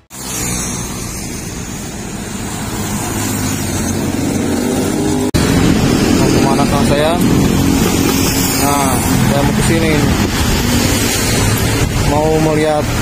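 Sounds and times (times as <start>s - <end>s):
cars and motorcycles passing: 0.0s - 13.0s.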